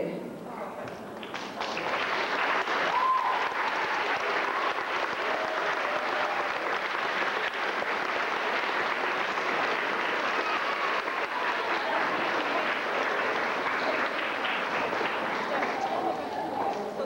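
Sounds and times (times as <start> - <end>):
audience applauding: 1.1 - 17.0.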